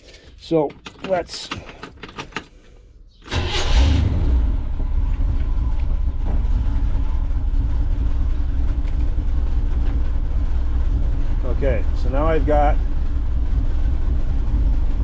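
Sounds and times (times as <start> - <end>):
van engine starting and idling: 1.1 - 15.0.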